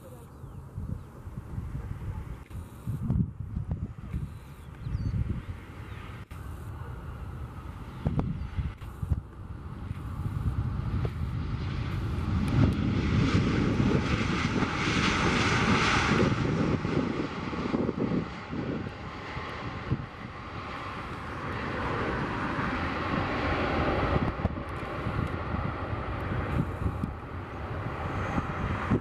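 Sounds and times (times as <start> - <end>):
jet engines roaring: 0.6 - 29.0.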